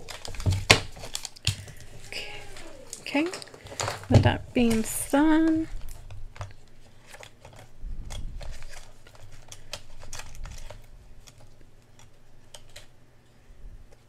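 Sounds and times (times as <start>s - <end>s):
plastic pockets clicking and crinkling: 0.0s - 13.0s.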